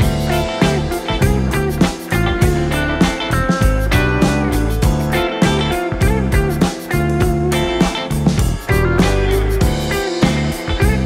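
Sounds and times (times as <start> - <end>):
guitar music with bass: 0.0 - 11.0.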